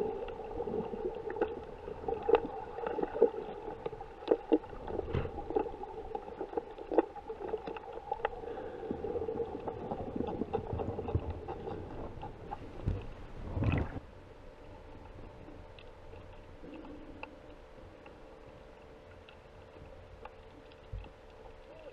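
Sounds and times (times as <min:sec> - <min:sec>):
boat motor hum underwater: 0:00.0 - 0:21.9.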